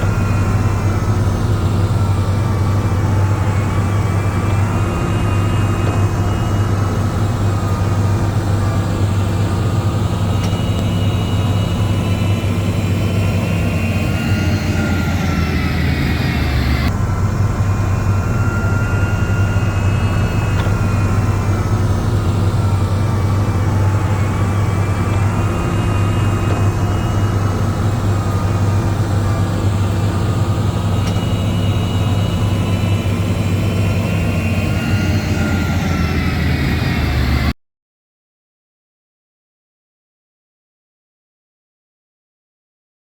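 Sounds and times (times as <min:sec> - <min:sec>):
diesel engine droning: 0:00.0 - 0:37.6
high machine whine: 0:00.0 - 0:37.6.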